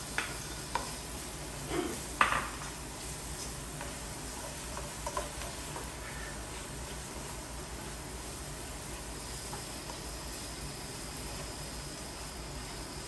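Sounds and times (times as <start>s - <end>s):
faint sizzle: 0.0s - 13.0s.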